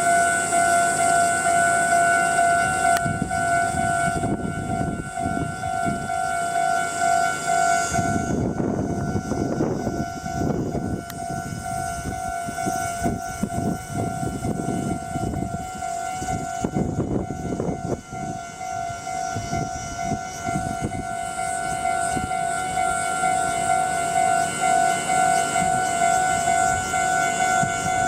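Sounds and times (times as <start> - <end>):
level crossing warning bell: 0.0 - 28.0
train rumbling past: 0.0 - 28.0.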